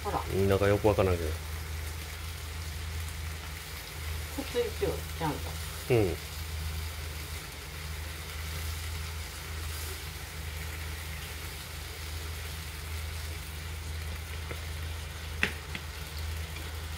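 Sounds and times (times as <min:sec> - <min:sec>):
food sizzling in frying pan: 0:00.0 - 0:16.9
steady low hum: 0:00.0 - 0:16.9.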